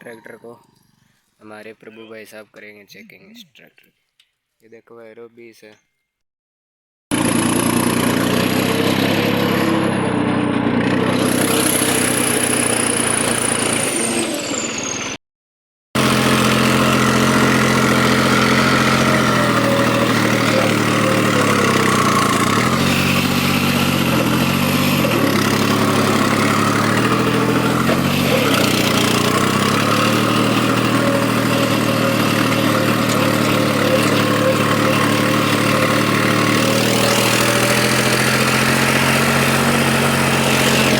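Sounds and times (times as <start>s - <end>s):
tractor engine running: 7.1s - 15.0s, 16.0s - 40.9s.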